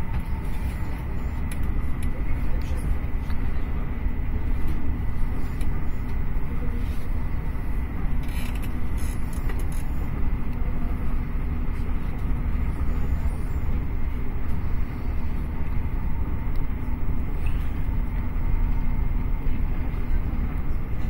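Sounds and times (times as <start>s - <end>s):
train rumbling at speed: 0.0s - 21.0s.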